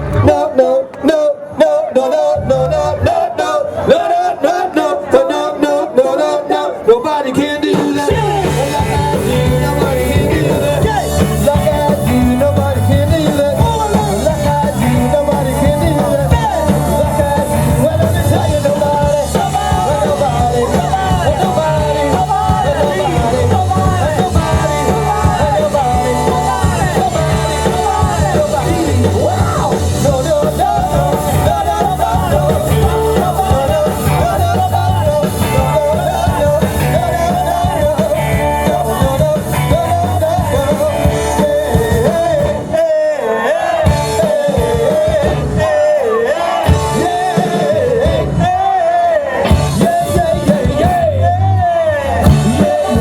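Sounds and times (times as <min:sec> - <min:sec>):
lead singer singing: 0:00.0 - 0:53.0
live rock band: 0:00.0 - 0:53.0.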